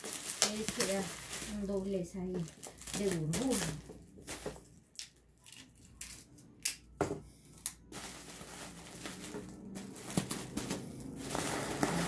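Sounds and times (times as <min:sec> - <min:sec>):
bubble wrap crinkling: 0:00.0 - 0:06.3, 0:07.6 - 0:12.0.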